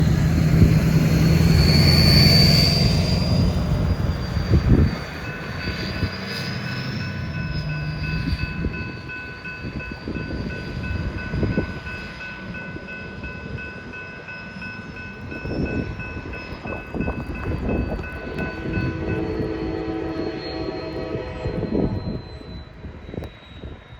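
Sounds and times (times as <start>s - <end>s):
diesel locomotive engine: 0.0s - 23.9s
train wheels squealing: 0.0s - 23.9s.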